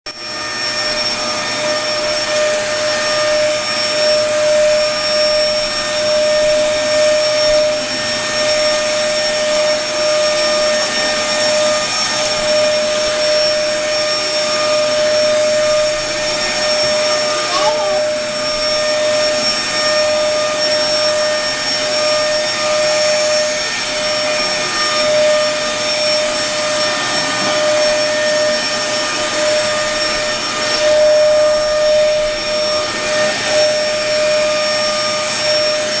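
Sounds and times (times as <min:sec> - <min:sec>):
vacuum cleaner running: 0:00.1 - 0:36.0.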